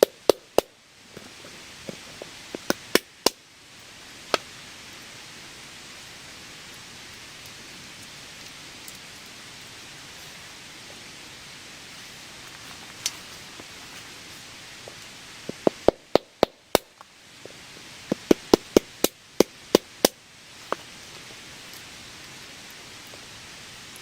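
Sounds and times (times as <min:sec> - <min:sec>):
rain hiss: 0:00.0 - 0:24.0.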